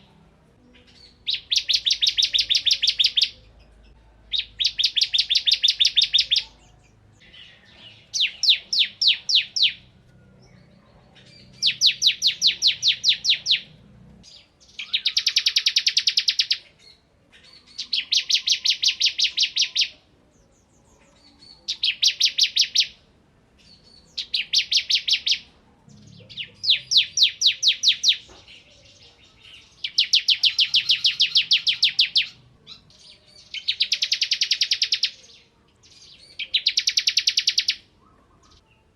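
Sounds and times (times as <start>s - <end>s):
bird singing fast trills: 0.8s - 3.5s, 4.3s - 20.0s, 20.7s - 23.0s, 23.6s - 28.3s, 29.4s - 38.6s.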